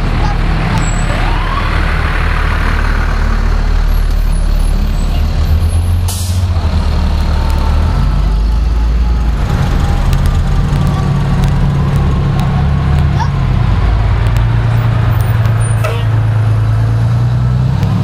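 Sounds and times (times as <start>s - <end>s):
diesel engines rumbling: 0.0s - 18.0s.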